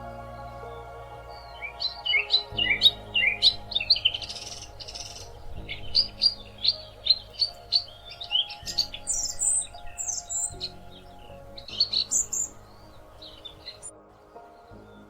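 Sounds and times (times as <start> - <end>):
soft musical drone: 0.0 - 15.0
songbirds chirping: 0.0 - 15.0.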